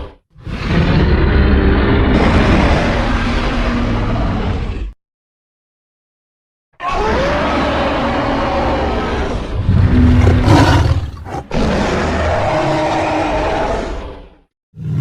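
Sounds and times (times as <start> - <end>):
creature roar: 0.0 - 4.9, 6.8 - 14.4.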